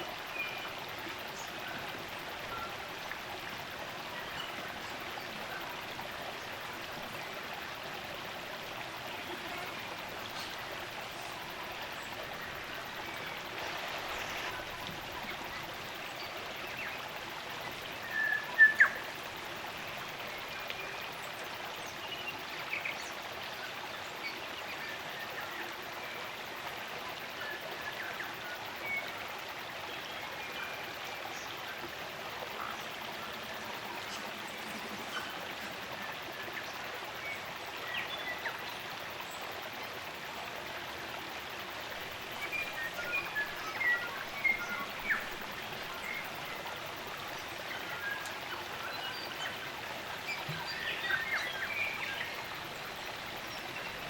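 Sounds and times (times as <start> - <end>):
running water stream: 0.0 - 54.0.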